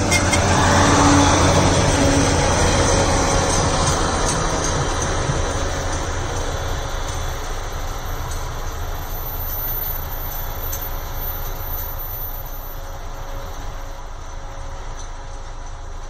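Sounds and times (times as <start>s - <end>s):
track machine engine and wheels: 0.0s - 16.0s.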